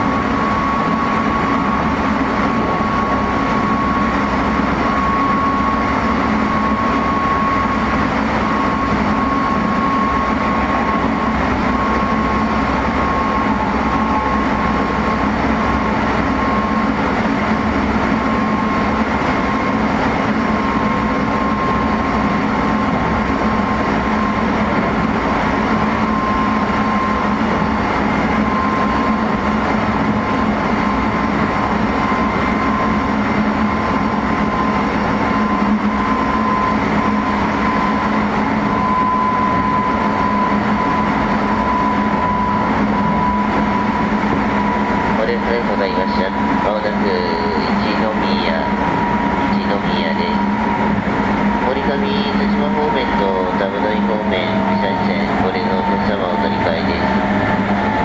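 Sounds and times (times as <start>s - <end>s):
steady high motor whine: 0.0s - 58.0s
wheel and rail rumble: 0.0s - 58.0s.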